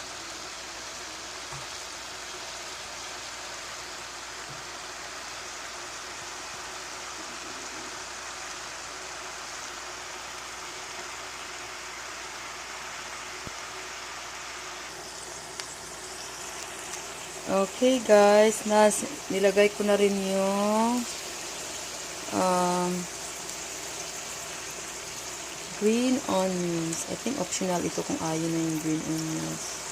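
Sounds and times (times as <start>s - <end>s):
vegetables sizzling in a frying pan: 0.0s - 29.9s.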